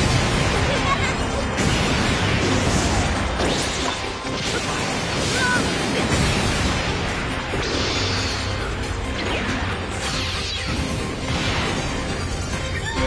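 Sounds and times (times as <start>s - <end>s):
cartoon explosions and crashing: 0.0s - 13.0s
music: 0.0s - 13.0s.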